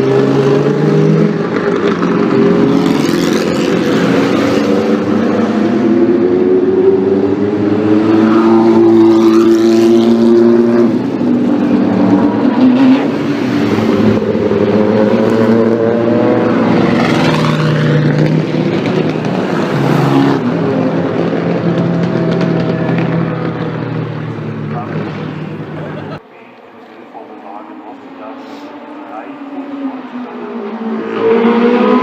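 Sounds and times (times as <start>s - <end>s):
racing car engine accelerating: 0.0s - 26.2s, 27.6s - 32.0s.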